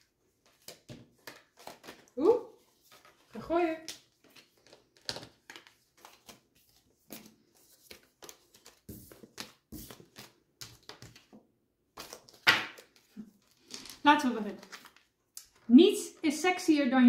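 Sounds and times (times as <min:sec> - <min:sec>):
cards being shuffled: 0:00.4 - 0:15.7.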